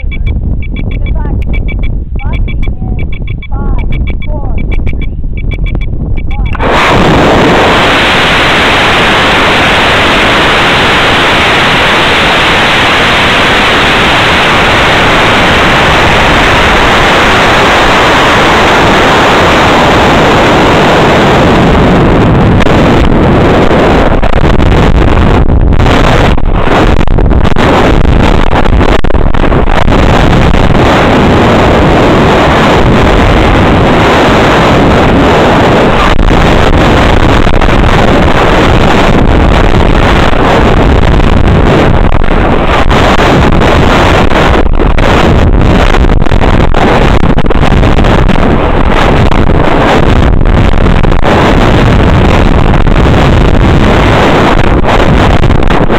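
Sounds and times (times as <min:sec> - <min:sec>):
wind noise on microphone: 0:00.0 - 0:55.9
rocket motor roar: 0:06.4 - 0:55.9.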